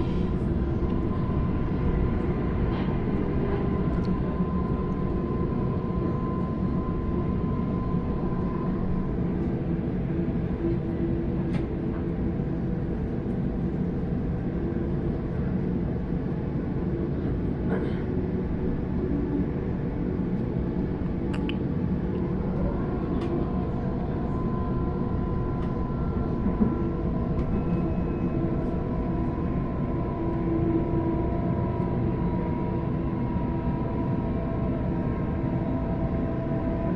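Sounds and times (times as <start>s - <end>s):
train wheels rumbling on track: 0.0s - 36.9s.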